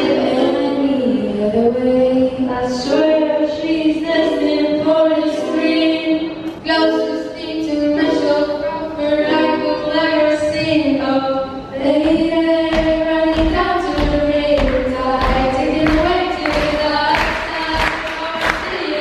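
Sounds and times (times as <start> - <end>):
women singing together: 0.0 - 19.0.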